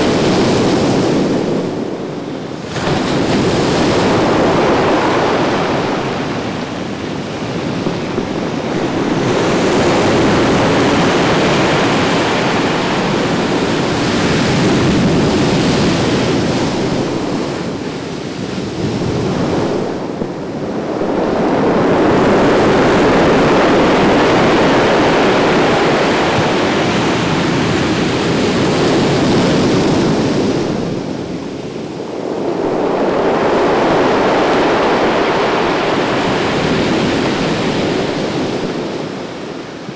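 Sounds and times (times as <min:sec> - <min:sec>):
surf waves crashing on beach: 0:00.0 - 0:39.9.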